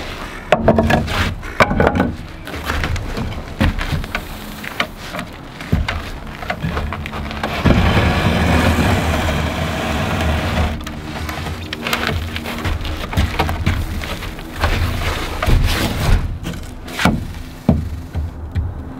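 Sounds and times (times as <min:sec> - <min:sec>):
wood scraping: 0:00.0 - 0:18.9
wooden lumber knocking and clattering: 0:00.5 - 0:18.9.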